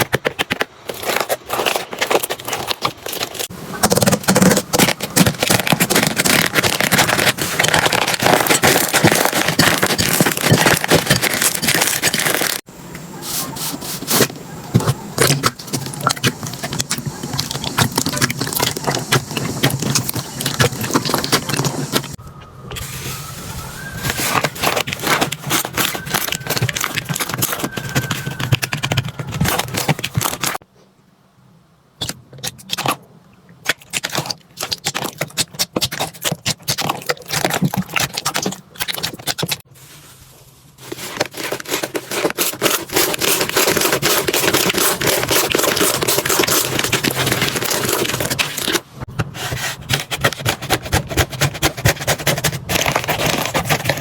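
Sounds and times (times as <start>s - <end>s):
slime squelching by hand: 1.0s - 22.2s, 22.8s - 30.6s, 33.6s - 40.0s, 40.8s - 48.8s.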